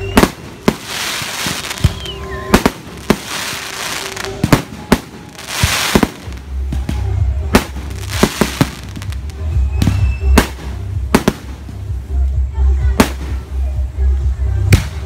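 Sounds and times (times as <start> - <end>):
fireworks hissing: 0.0 - 12.2.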